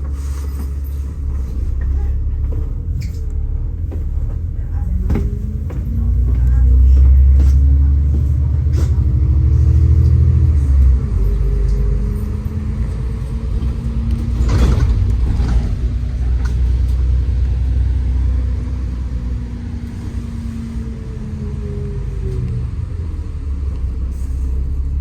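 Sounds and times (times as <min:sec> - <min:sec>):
bus engine rumble: 0:00.0 - 0:25.0
road noise: 0:00.0 - 0:25.0.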